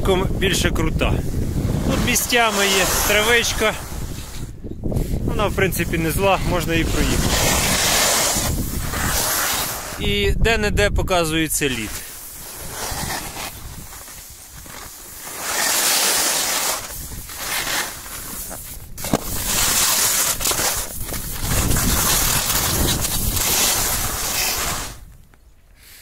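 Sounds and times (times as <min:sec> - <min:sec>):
wind on microphone: 0:00.0 - 0:11.1, 0:11.8 - 0:14.8, 0:16.5 - 0:25.2
skis scraping over snow: 0:00.4 - 0:04.5, 0:05.3 - 0:10.0, 0:11.6 - 0:25.1.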